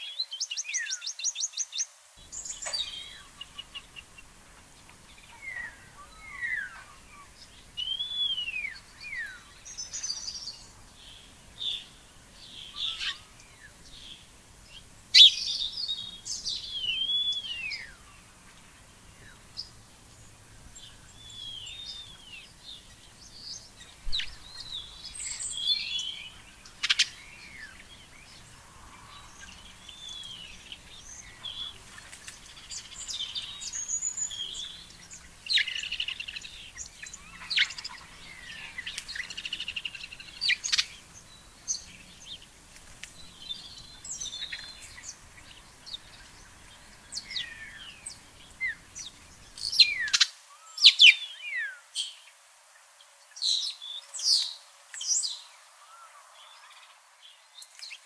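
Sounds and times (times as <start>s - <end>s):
songbirds calling: 0.0s - 58.0s.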